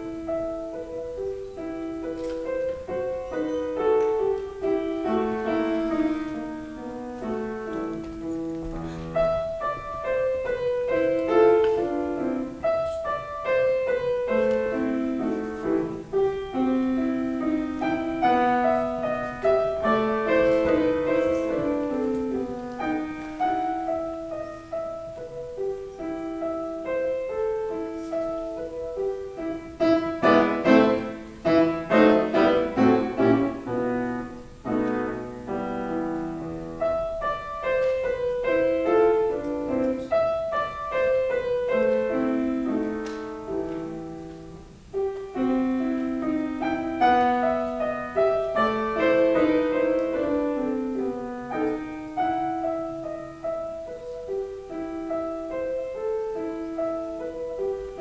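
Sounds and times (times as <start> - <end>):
solo piano classical piece: 0.0 - 58.0.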